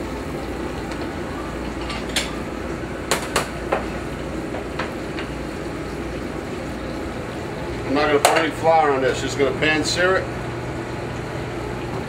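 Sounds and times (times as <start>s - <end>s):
steady kitchen hum: 0.0s - 12.0s.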